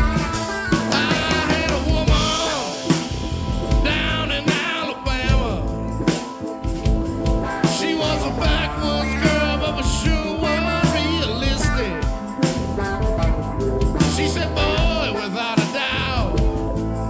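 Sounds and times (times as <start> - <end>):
electric bass: 0.0 - 15.2, 15.9 - 17.0
drum kit: 0.0 - 17.0
electric guitar lead lines: 0.0 - 17.0
keyboards: 0.0 - 17.0.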